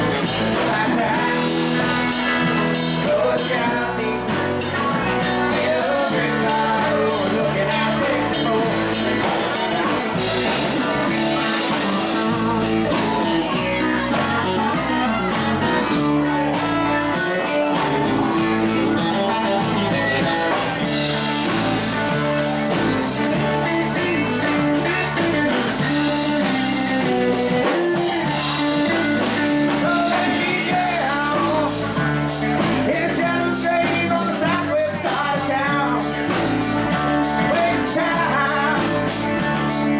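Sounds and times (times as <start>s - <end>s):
drum kit: 0.0s - 39.9s
electric guitars: 0.0s - 39.9s.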